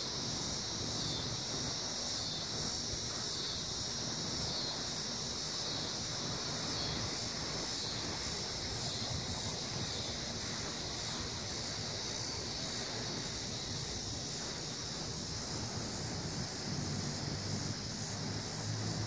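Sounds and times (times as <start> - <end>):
high hiss: 0.0 - 19.0.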